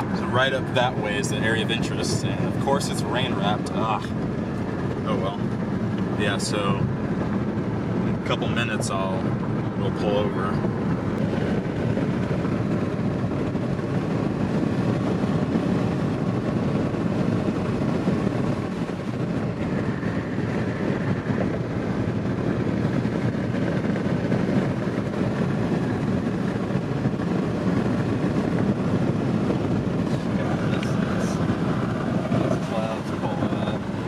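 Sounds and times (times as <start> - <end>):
car cabin road and engine noise: 0.0 - 34.0.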